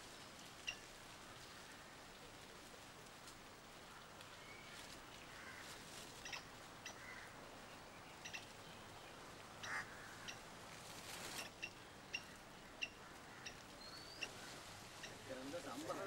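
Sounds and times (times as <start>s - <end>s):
faint outdoor background hiss: 0.0s - 16.0s.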